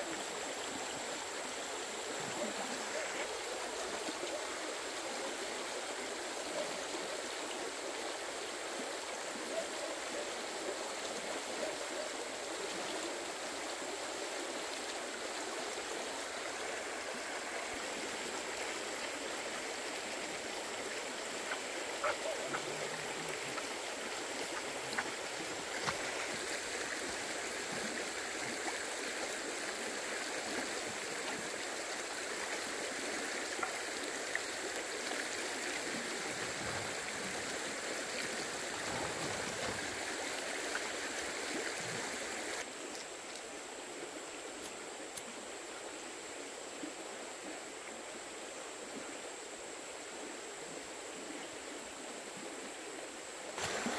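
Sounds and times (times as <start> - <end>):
flowing water rushing: 0.0 - 53.9.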